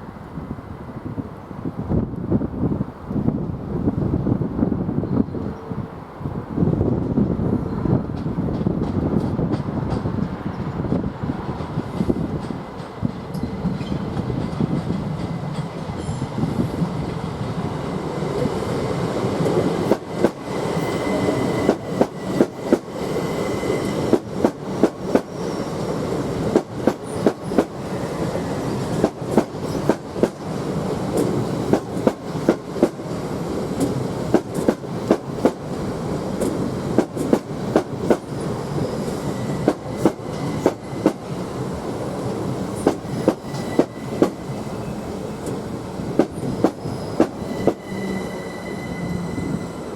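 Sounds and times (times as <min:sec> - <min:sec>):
train wheels rumbling: 0:06.6 - 0:49.9.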